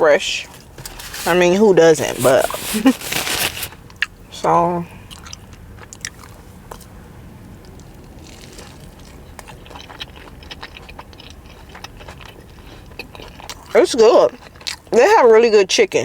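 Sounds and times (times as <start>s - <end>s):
close-up chewing with crunches: 0.6s - 4.2s, 5.0s - 15.4s.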